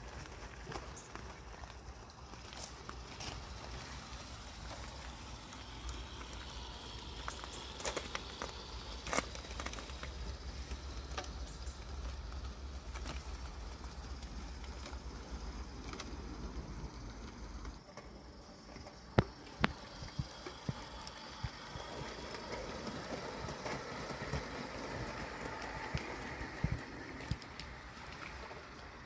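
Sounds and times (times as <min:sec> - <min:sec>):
model train wheels clicking and rattling: 0:00.0 - 0:29.0
steady low rumble: 0:00.0 - 0:29.0.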